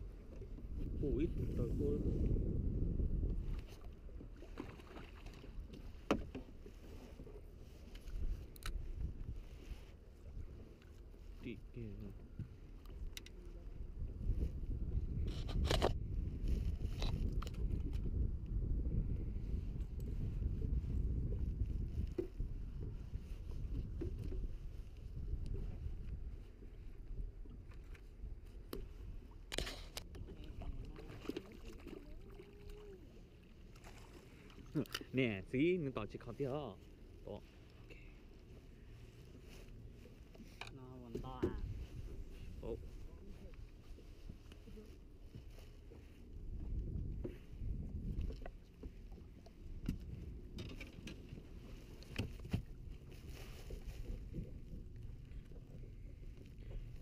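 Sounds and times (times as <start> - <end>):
wind on microphone: 0.0 - 6.3, 6.9 - 10.7, 11.3 - 33.2, 41.0 - 57.0
water lapping against boat: 0.0 - 57.0.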